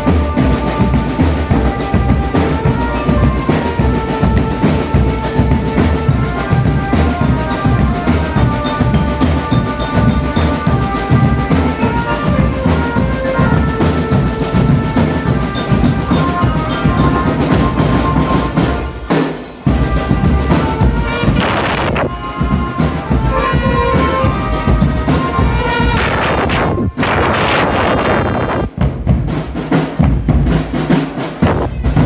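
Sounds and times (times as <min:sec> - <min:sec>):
wind instruments melody: 0:00.0 - 0:28.8
marching drums: 0:00.0 - 0:32.0.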